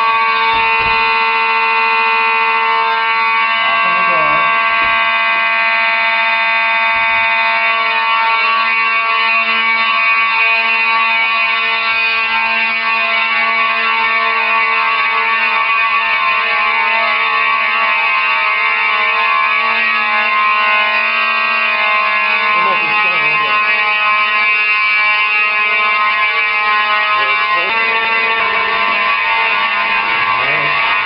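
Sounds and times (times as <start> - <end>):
fire alarm tone: 0.0 - 31.0.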